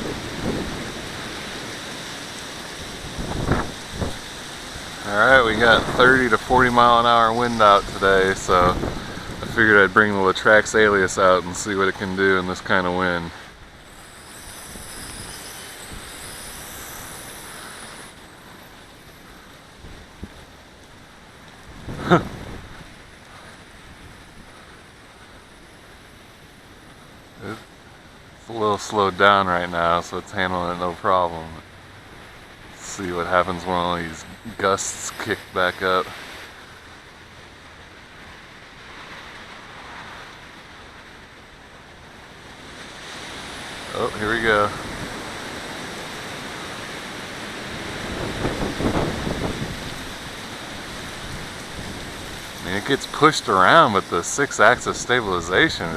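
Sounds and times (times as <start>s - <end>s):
gusty wind on microphone: 0.0s - 55.9s.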